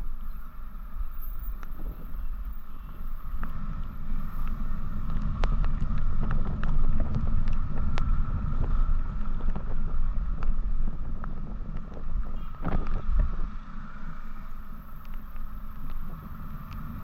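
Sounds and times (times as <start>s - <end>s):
faint steady whine: 0.0s - 17.0s
wind buffeting microphone: 0.0s - 17.0s.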